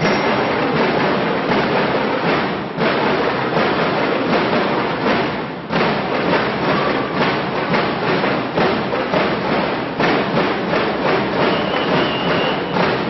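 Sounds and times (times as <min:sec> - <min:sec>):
marching drums beating: 0:00.0 - 0:13.0.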